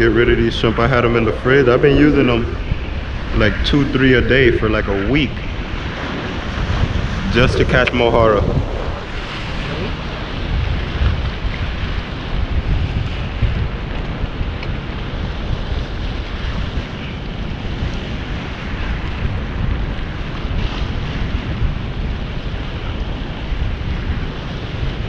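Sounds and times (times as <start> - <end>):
sea water washing around pilings: 0.0 - 25.0
wind buffeting microphone: 0.0 - 25.0.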